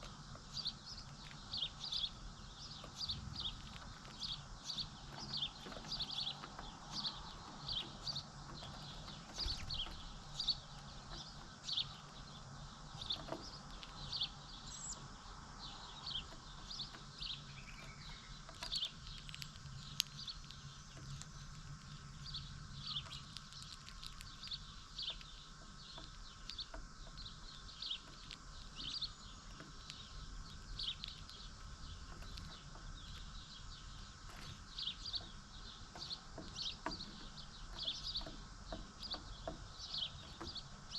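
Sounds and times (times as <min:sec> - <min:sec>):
faint low hum: 0:00.0 - 0:40.9
small birds chirping: 0:00.0 - 0:40.9.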